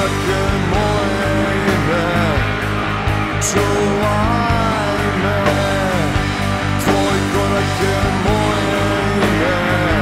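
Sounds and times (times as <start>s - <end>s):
rock band playing live: 0.0s - 10.0s.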